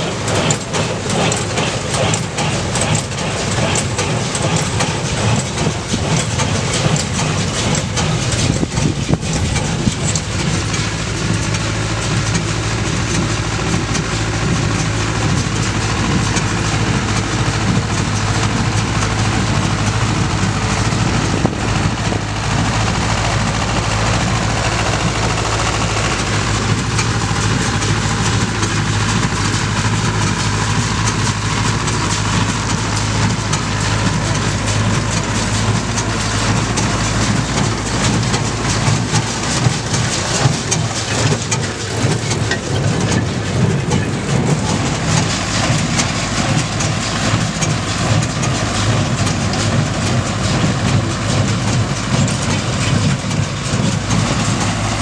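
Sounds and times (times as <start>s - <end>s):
baler clattering: 0.0s - 55.0s
tractor diesel engine running: 0.0s - 55.0s.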